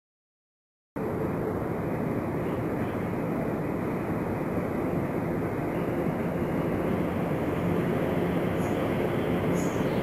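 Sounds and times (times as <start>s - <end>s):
train rumbling in tunnel: 1.0s - 10.0s.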